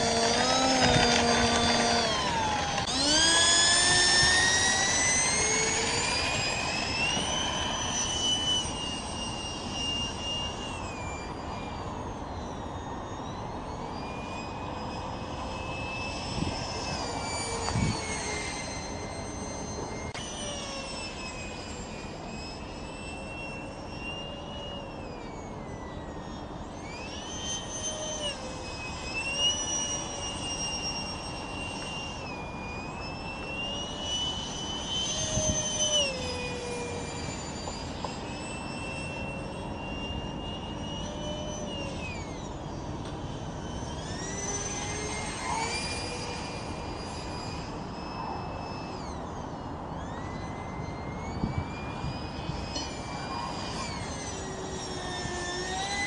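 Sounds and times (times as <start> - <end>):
electric ducted fan whining: 0.0 - 56.0.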